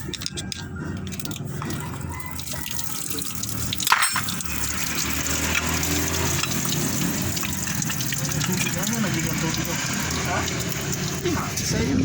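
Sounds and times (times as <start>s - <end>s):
water running and splashing: 1.6s - 11.8s.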